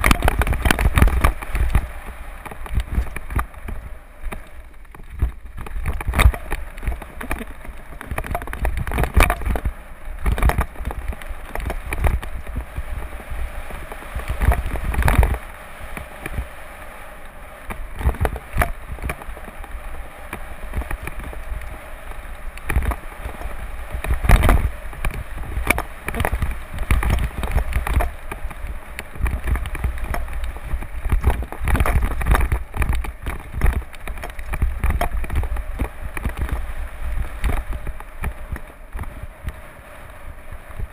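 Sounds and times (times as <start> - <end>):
bike knocks and rattles: 0.0 - 13.1, 13.7 - 16.4, 17.6 - 39.6
wind rumbling on microphone: 0.0 - 40.9.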